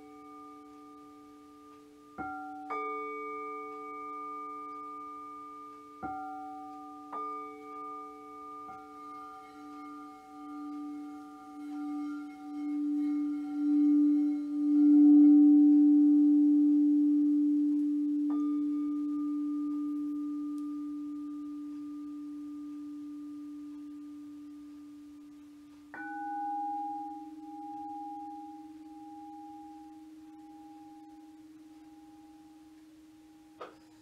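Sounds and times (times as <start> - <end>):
singing bowl struck: 0.0 - 24.2, 25.9 - 32.8
singing bowls humming: 0.0 - 34.0.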